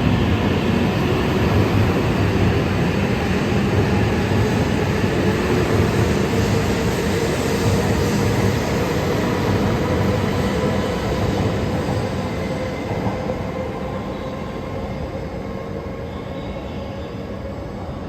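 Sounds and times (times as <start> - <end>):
train rushing on rails: 0.0 - 18.0.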